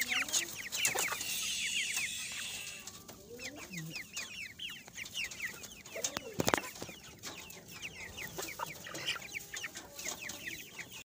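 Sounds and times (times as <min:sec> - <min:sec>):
young chickens peeping: 0:00.0 - 0:11.0.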